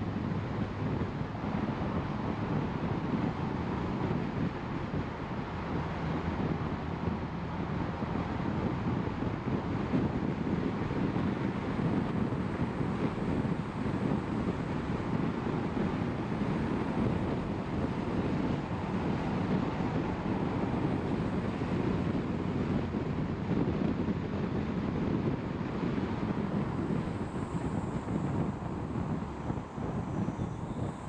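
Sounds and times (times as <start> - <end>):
car road noise rumble: 0.0 - 31.0.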